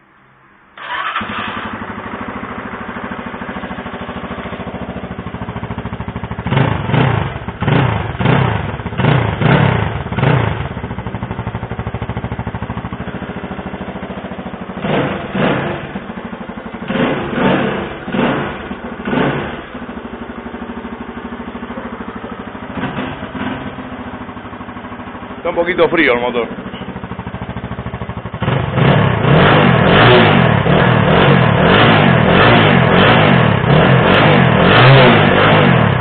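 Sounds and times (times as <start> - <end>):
motorcycle engine idling and revving: 0.8 - 36.0.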